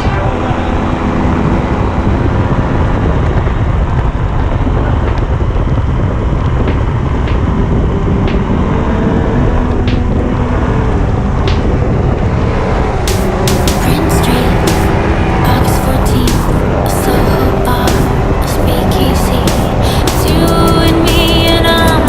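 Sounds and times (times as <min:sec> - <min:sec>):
vehicle engine running: 0:00.0 - 0:22.0
wind rushing over microphone: 0:00.0 - 0:22.0.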